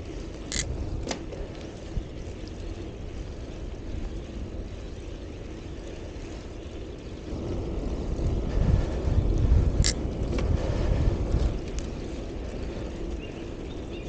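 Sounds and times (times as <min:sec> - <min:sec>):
bicycle rolling noise: 0:00.0 - 0:14.0
wind rumble on microphone: 0:00.0 - 0:14.0.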